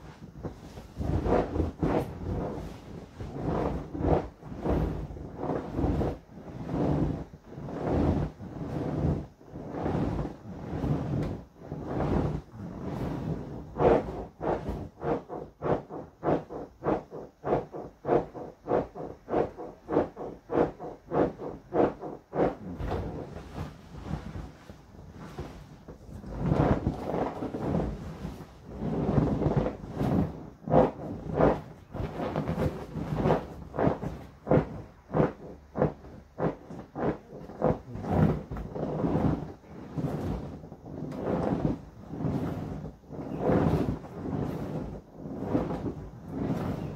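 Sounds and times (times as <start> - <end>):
inflatable toy squeaking and rubbing: 0.4 - 46.9.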